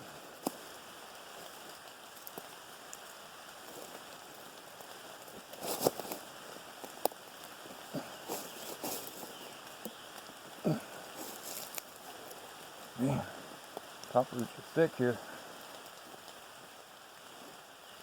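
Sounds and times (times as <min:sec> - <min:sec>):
steady rain in woodland: 0:00.0 - 0:18.0.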